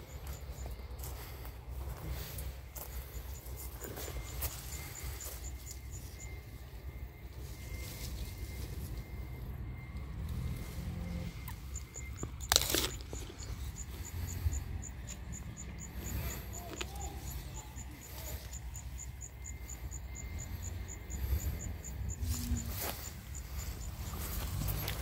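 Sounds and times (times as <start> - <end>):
insect chirping: 0.0 - 25.0.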